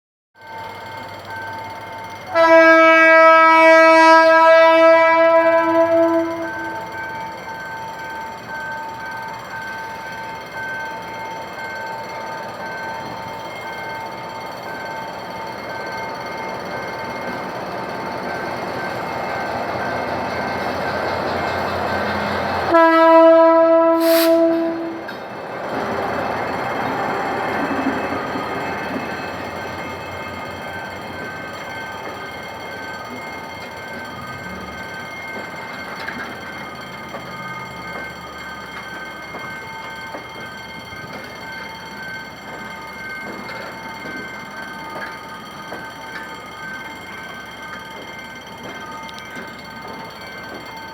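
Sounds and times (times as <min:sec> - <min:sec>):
locomotive engine and wheels rumbling: 0:00.6 - 0:50.9.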